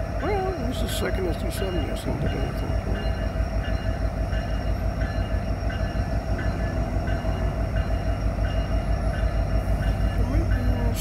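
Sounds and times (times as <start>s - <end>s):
locomotives rumbling: 0.0s - 11.0s.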